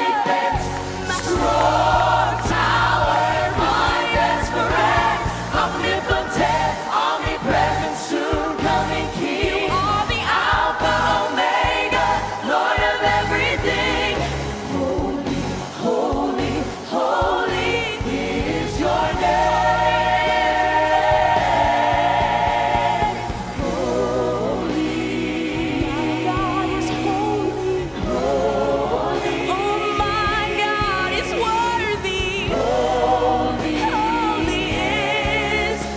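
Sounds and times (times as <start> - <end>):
vocal ensemble singing gospel: 0.0 - 35.9.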